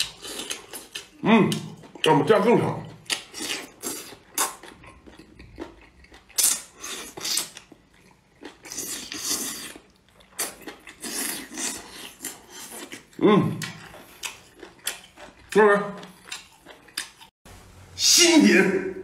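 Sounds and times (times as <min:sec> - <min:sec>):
chewing: 0:00.0 - 0:17.3.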